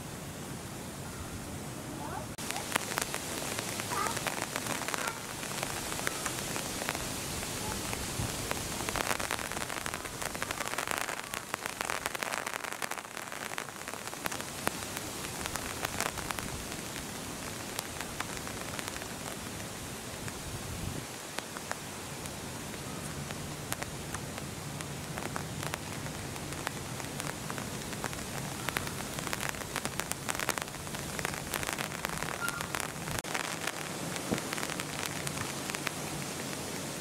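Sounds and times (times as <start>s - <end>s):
rain falling steadily: 0.0s - 37.0s
raindrops ticking on surfaces: 2.0s - 37.0s.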